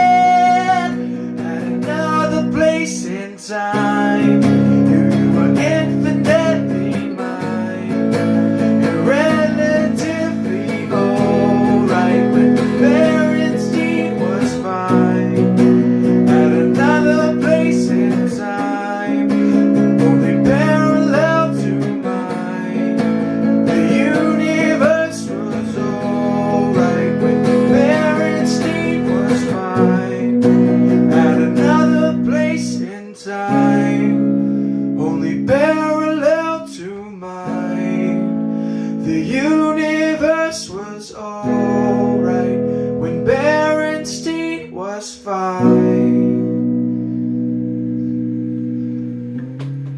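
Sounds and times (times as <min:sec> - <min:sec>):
person singing: 0:00.0 - 0:49.4
acoustic guitar strumming: 0:00.0 - 0:49.9.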